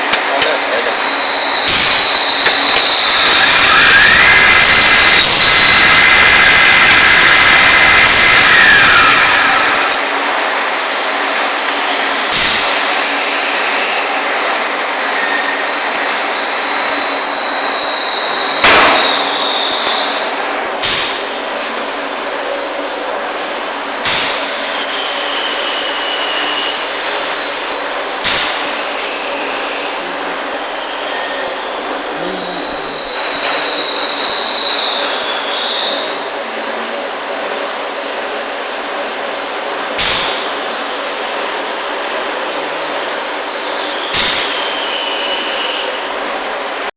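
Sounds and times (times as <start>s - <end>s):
lathe machine hum: 0.0s - 44.0s
thin high whine: 0.0s - 46.9s.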